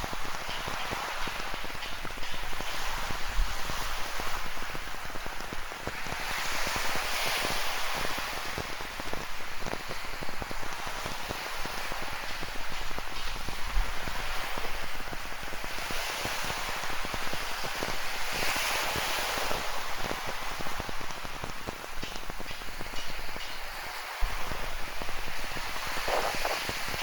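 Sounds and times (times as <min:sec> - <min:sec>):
ocean surf: 0:00.0 - 0:27.0
rain falling: 0:00.0 - 0:27.0.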